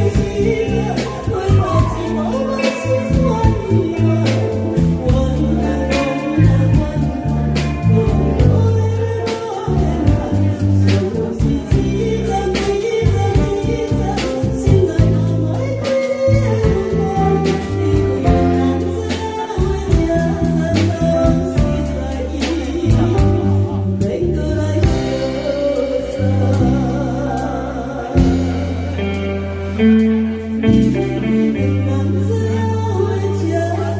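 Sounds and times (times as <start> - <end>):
instrumental accompaniment with beat: 0.0 - 33.4
person singing: 0.0 - 33.9.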